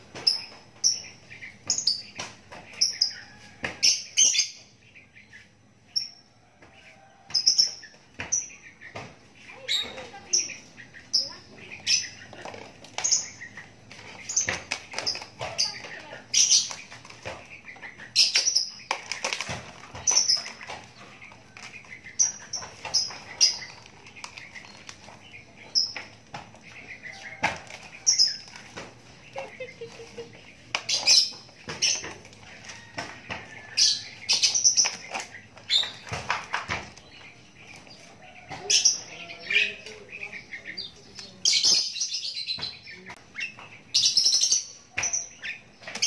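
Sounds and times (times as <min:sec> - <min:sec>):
bird chirping: 0:00.0 - 0:46.0.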